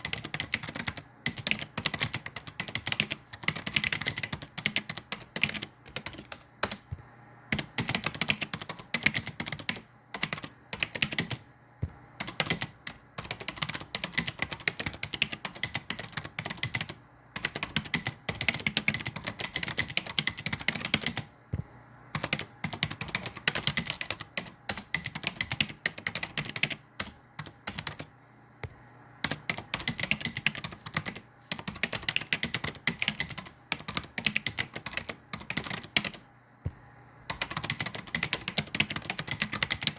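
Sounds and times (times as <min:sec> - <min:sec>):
keyboard typing clicks: 0:00.0 - 0:39.9.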